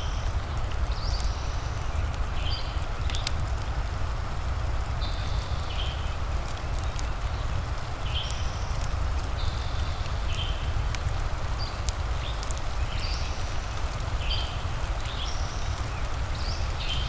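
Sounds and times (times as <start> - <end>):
fire crackling and popping: 0.0 - 17.0
rain patter: 0.0 - 17.0.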